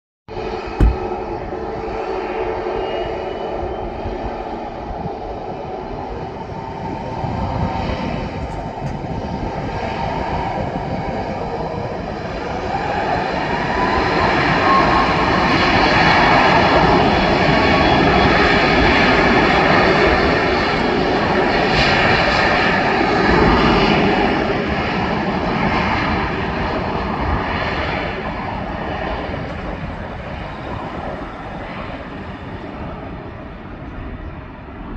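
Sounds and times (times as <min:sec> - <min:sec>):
jet engines on departure: 0:00.8 - 0:34.9.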